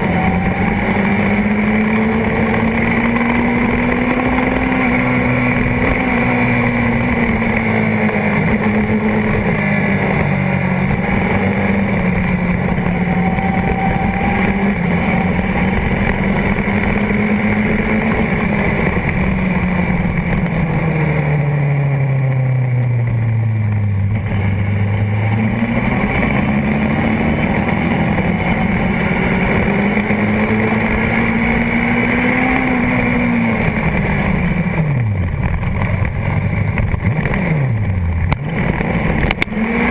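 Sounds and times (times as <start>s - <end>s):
motorcycle engine racing: 0.0s - 39.9s
wind rush: 0.0s - 39.9s.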